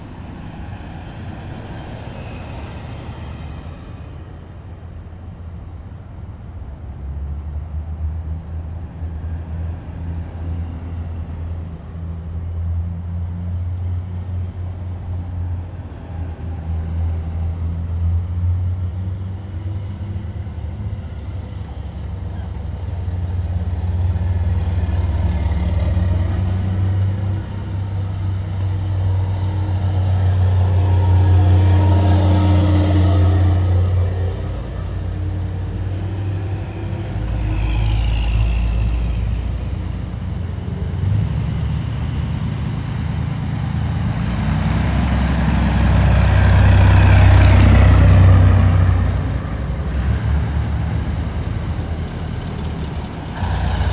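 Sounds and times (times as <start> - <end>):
heavy diesel engines droning: 0.0 - 53.9.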